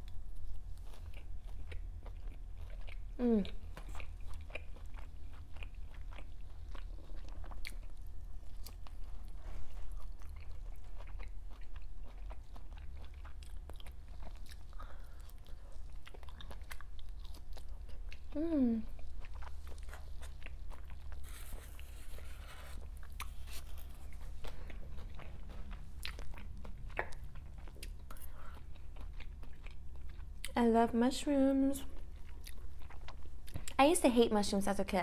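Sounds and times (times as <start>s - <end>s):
person chewing and crunching food: 0.0s - 30.7s, 31.4s - 33.8s.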